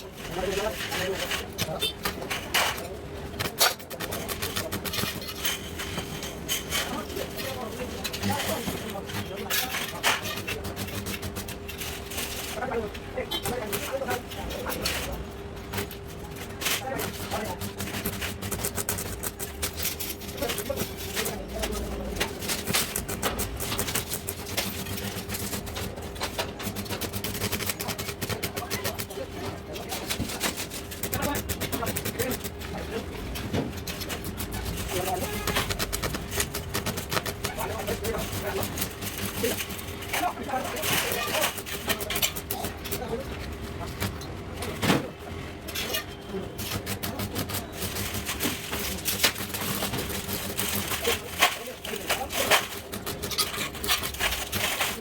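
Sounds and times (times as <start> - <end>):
steady welder hum: 0.0 - 44.6, 45.6 - 55.0
arc welding crackling: 0.0 - 44.8, 45.6 - 55.0.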